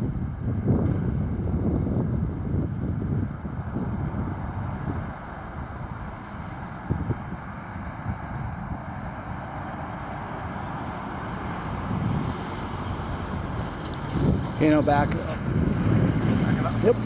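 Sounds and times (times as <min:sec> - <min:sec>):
pickup truck engine running: 0:00.0 - 0:17.0.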